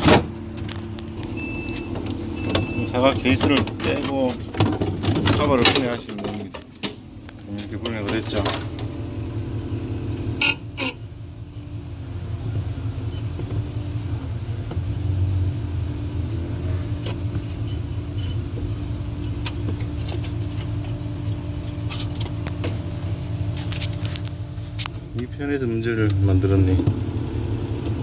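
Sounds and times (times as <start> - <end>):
refrigerator fan motor rumbling: 0.0 - 28.0.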